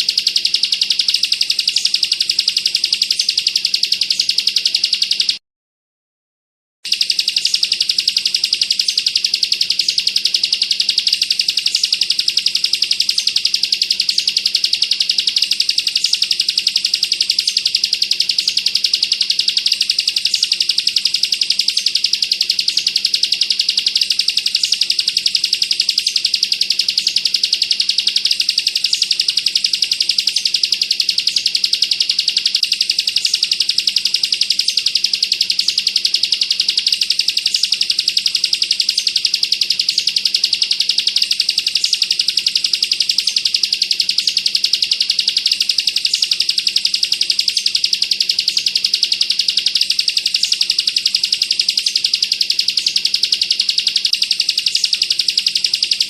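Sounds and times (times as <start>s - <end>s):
bird rapid rattling trill: 0.0s - 5.4s, 6.9s - 56.0s.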